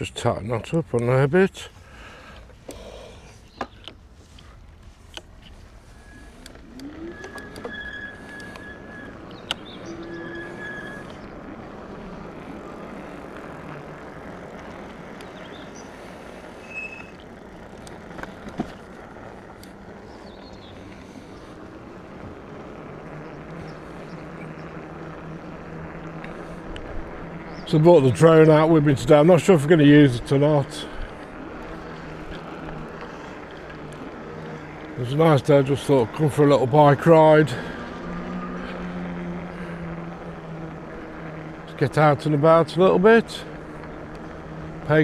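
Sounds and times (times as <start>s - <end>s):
low motor hum: 0.0s - 45.0s
tyre and wind noise: 1.7s - 45.0s
bike clicks and knocks: 2.0s - 45.0s.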